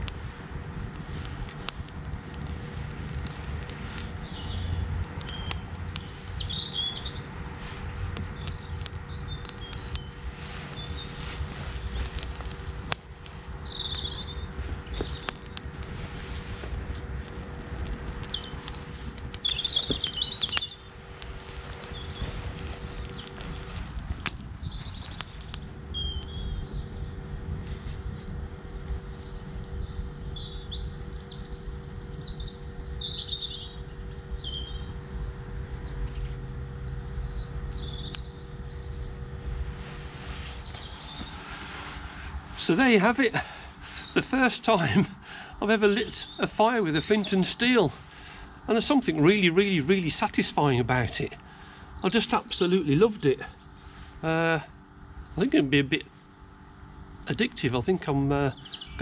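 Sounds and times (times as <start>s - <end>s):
campfire crackling and popping: 0.0s - 56.1s
birds chirping: 0.8s - 59.0s.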